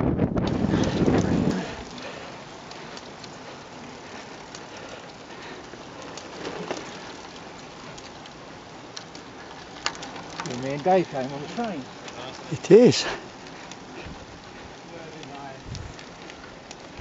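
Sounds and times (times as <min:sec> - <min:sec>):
bike clicks and ticks: 0:00.1 - 0:17.0
bicycle tyre hiss on tarmac: 0:00.4 - 0:17.0.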